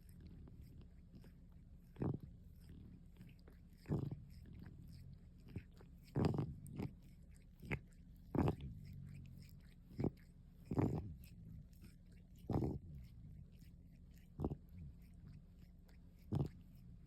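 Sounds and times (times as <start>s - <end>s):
cat licking: 0.0s - 17.0s.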